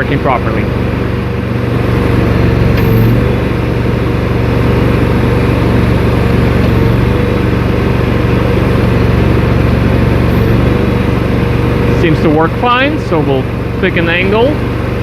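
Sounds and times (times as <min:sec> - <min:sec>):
gasoline engine running: 0:00.0 - 0:15.0.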